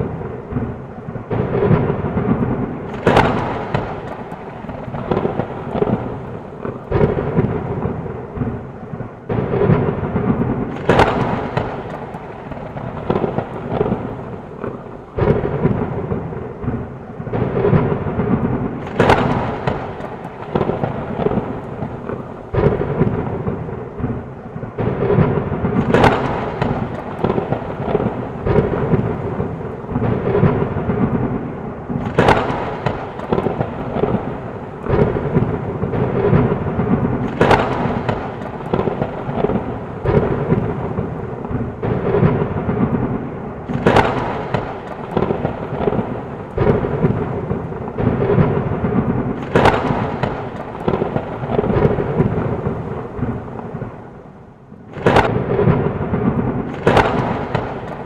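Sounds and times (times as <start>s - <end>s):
heavy rain falling: 0.0s - 58.0s
rolling thunder: 0.0s - 58.0s
sharp thunder cracks: 0.0s - 58.0s.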